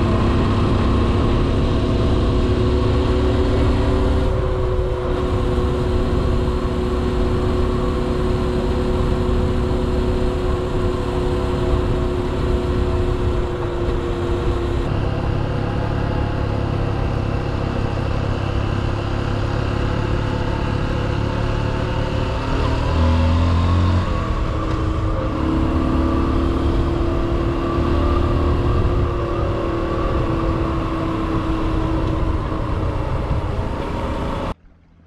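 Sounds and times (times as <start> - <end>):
motorcycle engine running: 0.0 - 35.0
wind and road rush: 0.0 - 35.0.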